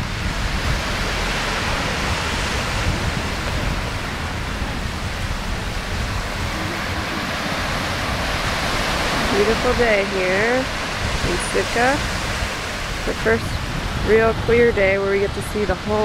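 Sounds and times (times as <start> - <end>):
small waves breaking on sand: 0.0 - 16.0
wind rumbling on microphone: 0.0 - 16.0.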